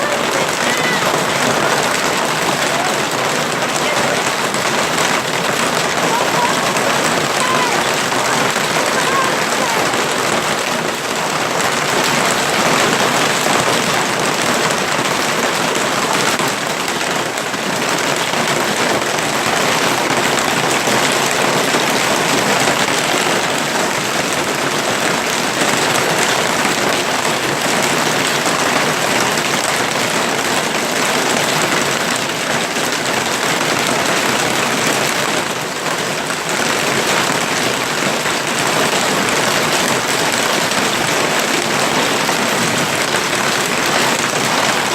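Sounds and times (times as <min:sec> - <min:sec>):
hail and heavy rain pelting: 0:00.0 - 0:44.9.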